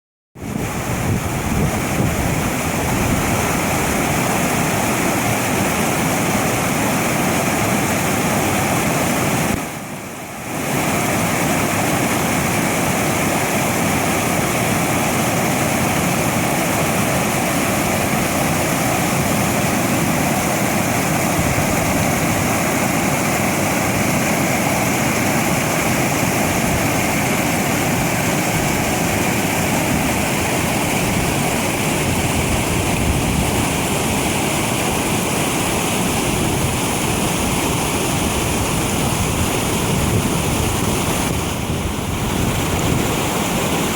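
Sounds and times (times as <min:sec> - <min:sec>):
river water rushing: 0:00.4 - 0:43.9.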